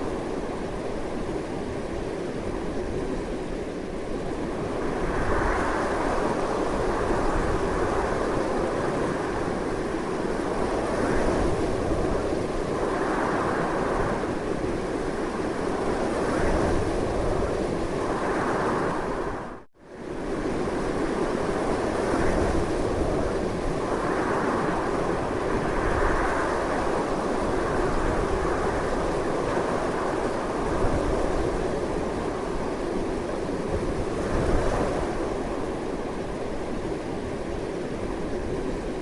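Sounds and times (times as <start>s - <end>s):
strong wind blowing: 0.0s - 39.0s.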